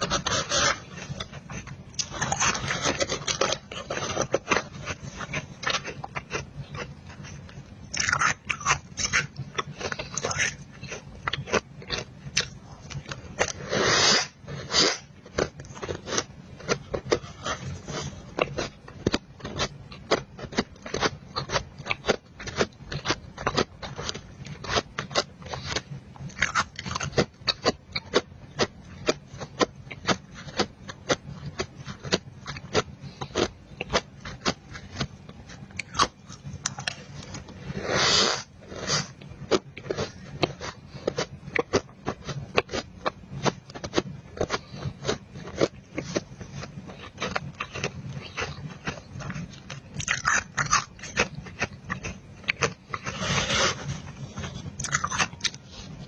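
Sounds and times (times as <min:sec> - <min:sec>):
ice being chewed: 0:00.0 - 0:56.0.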